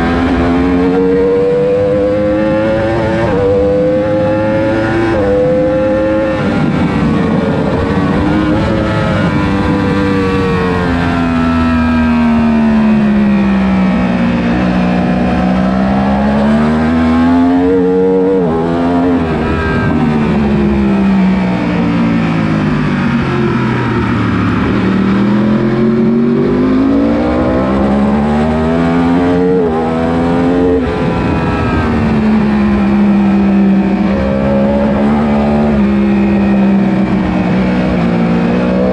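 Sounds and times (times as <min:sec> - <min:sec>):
superbike engines racing: 0:00.0 - 0:38.9.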